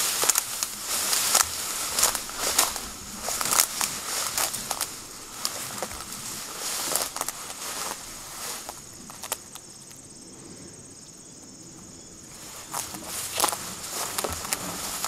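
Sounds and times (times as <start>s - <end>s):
footsteps through dry undergrowth: 0.0s - 9.7s, 12.3s - 15.0s
high-pitched insect drone: 0.0s - 15.0s.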